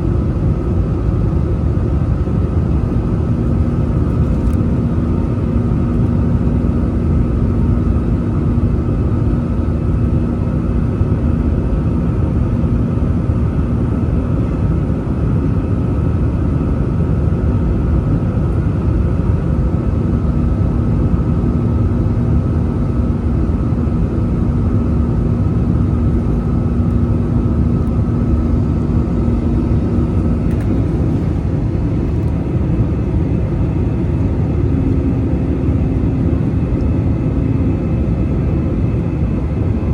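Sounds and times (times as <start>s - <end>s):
jet engine rumble in cabin: 0.0s - 39.9s
steady engine hum: 0.0s - 39.9s.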